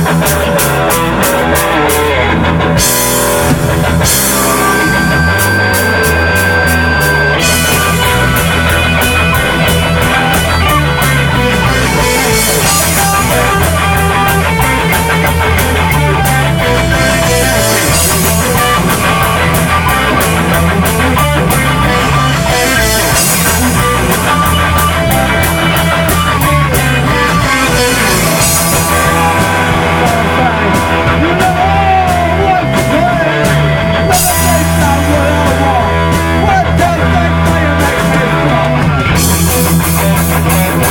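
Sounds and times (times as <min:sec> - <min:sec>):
drum kit cymbal beat: 0:00.0 - 0:40.9
rock band playing: 0:00.0 - 0:40.9.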